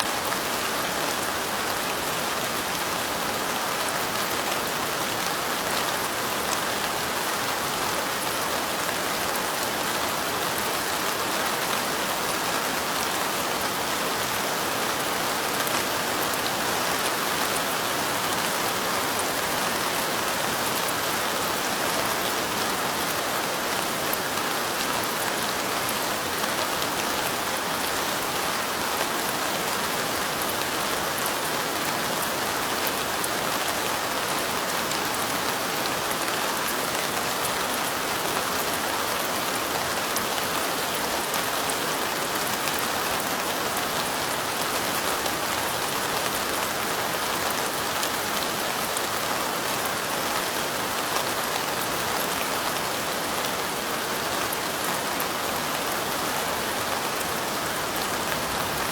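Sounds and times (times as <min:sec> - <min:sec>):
light rain: 0:00.0 - 0:58.9.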